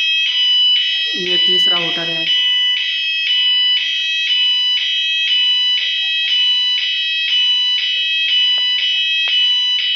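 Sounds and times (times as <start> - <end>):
shrill pulsing fire alarm: 0.0 - 9.9.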